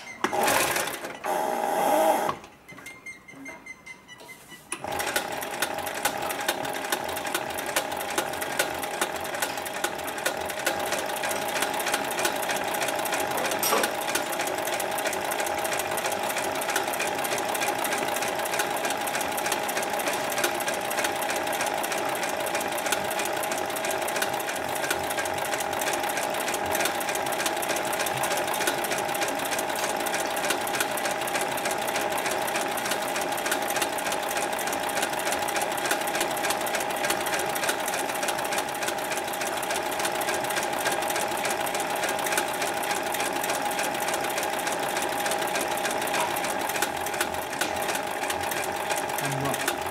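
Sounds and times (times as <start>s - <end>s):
sewing machine clattering: 0.2s - 1.4s, 4.8s - 49.9s.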